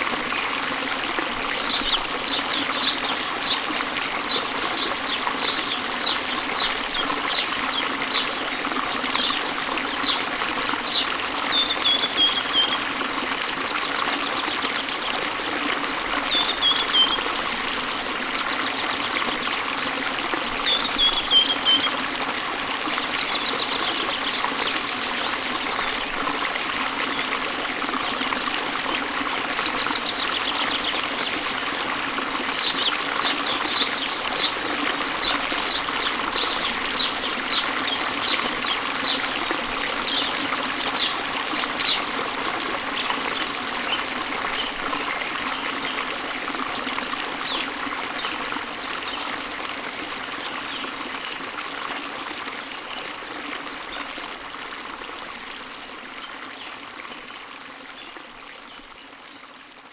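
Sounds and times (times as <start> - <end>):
falling water rushing: 0.0 - 50.8.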